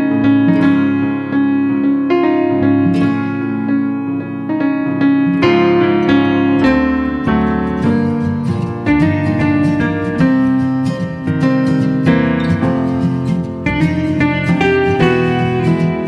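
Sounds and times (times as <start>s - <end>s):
keyboard instrumental music: 0.0s - 16.0s.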